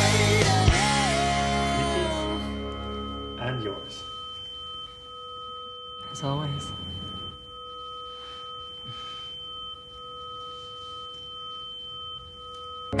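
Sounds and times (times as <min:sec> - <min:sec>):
electronic drone of ringing tones: 0:00.0 - 0:13.0.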